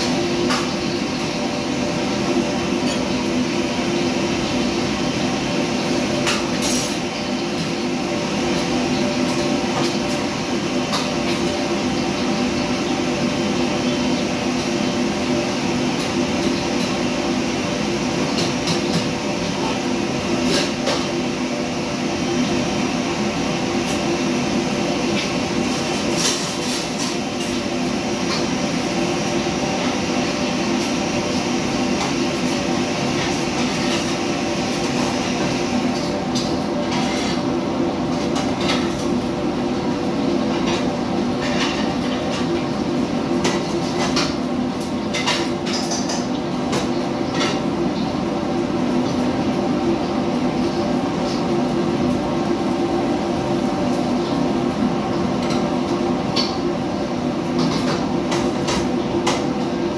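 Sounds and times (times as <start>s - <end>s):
extractor hood fan: 0.0s - 59.9s
wok burners roaring: 0.0s - 59.9s.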